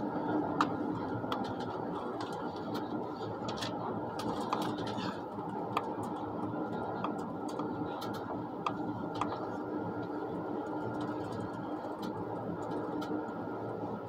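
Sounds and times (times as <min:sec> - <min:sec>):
high-speed train running: 0:00.0 - 0:14.0.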